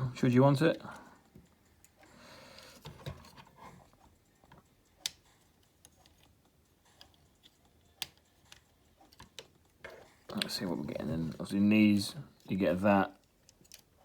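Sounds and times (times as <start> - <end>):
soft handling noise: 0.4 - 14.0.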